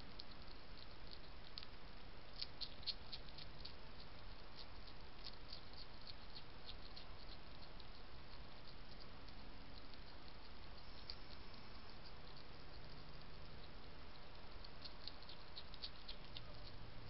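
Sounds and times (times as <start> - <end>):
hedgehog crunching dry biscuits: 0.0 - 17.0.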